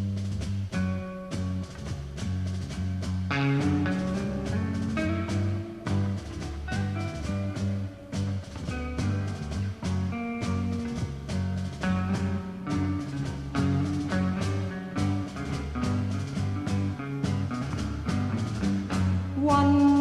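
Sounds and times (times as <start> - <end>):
psychedelic rock instrumental: 0.0 - 20.0.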